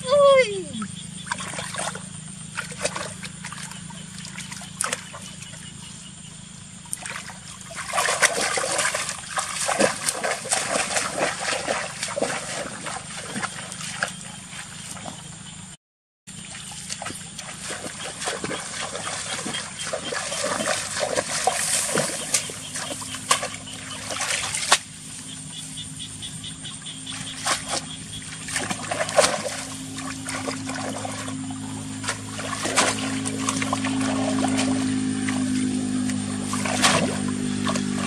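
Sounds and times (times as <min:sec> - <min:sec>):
water splashing and trickling: 0:00.0 - 0:15.3, 0:16.3 - 0:38.0.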